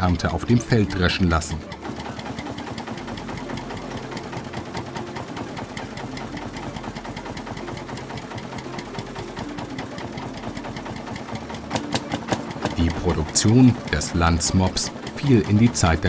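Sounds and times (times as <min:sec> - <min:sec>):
tractor engine knocking: 0:00.0 - 0:16.0.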